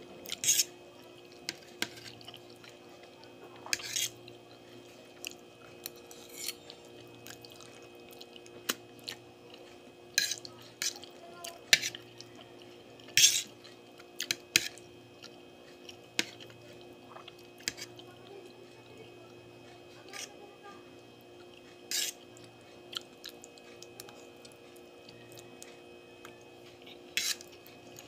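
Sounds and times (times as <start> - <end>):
faint steady hum: 0.0 - 28.0
slurping and chewing noodles: 0.2 - 18.1, 21.4 - 28.0.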